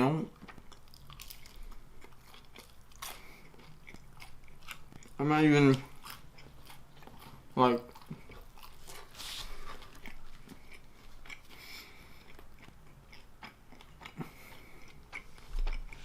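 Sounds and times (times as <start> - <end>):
person chewing pizza: 0.0 - 16.0.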